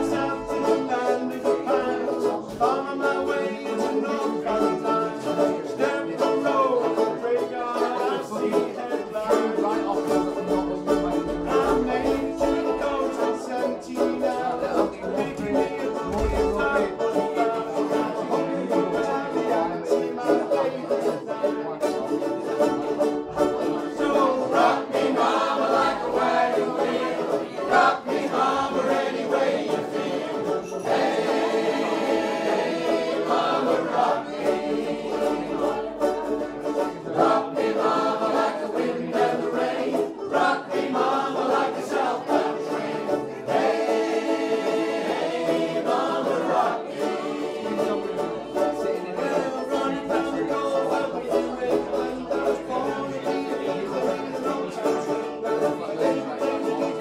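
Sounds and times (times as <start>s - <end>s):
people singing together: 0.0s - 57.0s
ukulele strumming: 0.0s - 57.0s.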